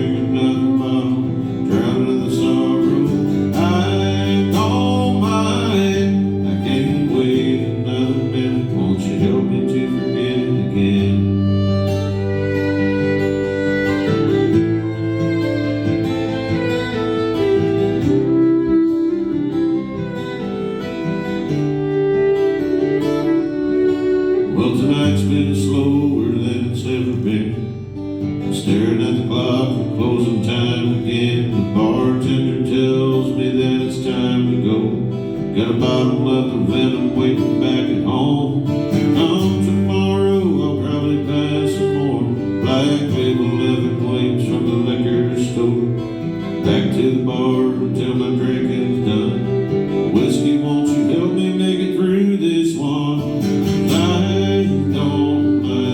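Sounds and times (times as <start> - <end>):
acoustic guitar playing: 0.0 - 55.9
held melody line: 0.0 - 55.9.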